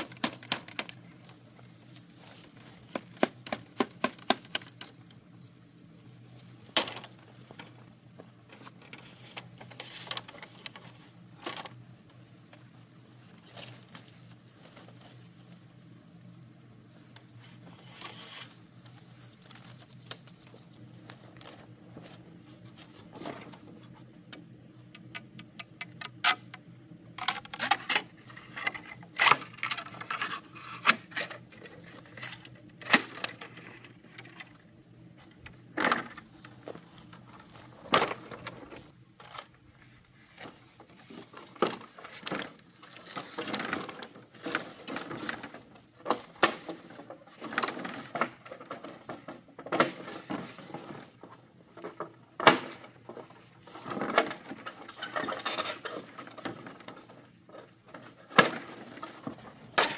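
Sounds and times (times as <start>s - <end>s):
bamboo poles knocking and rustling: 0.0s - 5.4s, 6.6s - 15.6s, 17.1s - 59.9s.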